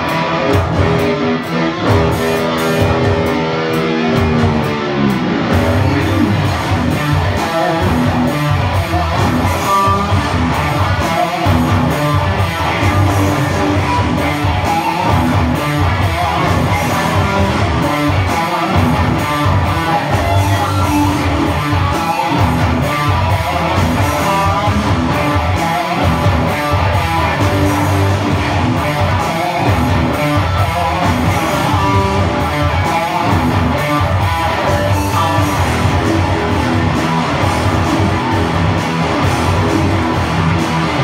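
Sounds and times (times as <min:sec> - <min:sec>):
bass line: 0:00.0 - 0:41.0
electric guitar: 0:00.0 - 0:41.0
steady beat: 0:00.0 - 0:41.0.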